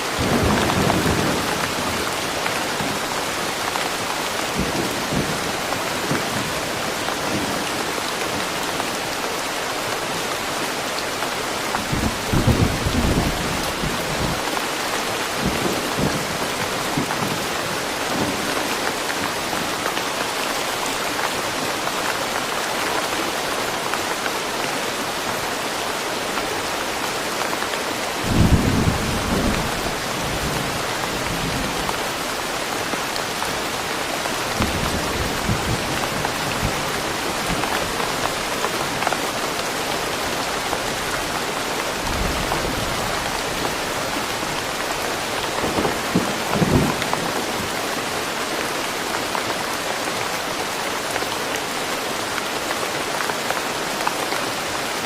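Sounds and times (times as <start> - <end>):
rain falling in woodland: 0.0 - 55.0.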